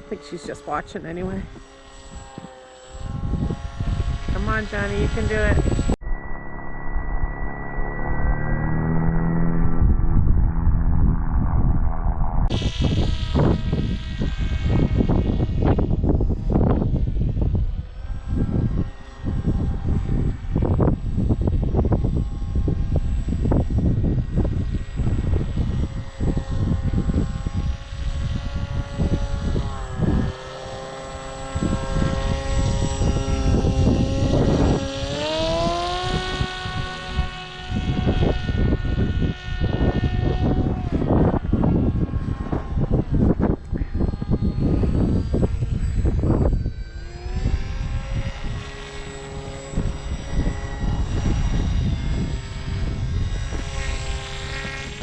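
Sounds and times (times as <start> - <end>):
electric motor and propeller whining: 0.0 - 55.0
wind buffeting microphone: 0.0 - 55.0.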